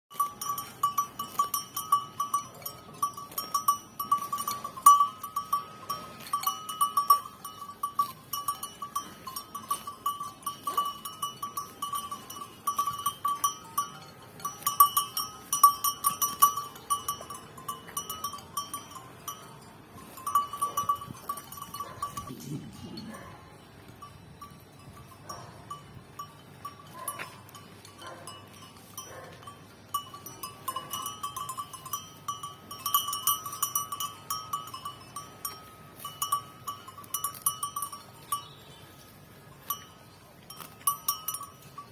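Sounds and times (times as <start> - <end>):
small metal bell jingling: 0.1 - 41.9.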